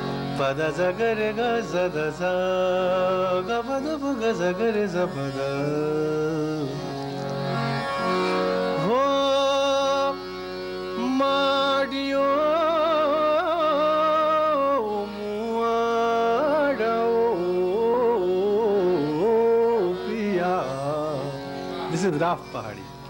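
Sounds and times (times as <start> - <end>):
man singing classical vocal: 0.3 - 7.0, 8.8 - 22.2.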